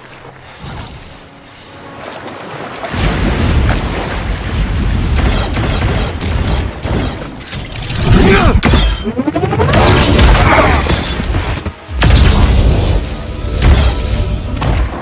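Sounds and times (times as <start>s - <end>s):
film score: 0.0s - 15.0s.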